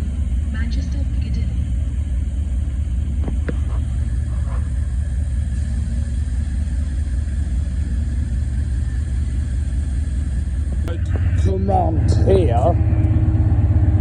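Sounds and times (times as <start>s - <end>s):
diesel train engine rumble: 0.0s - 14.0s.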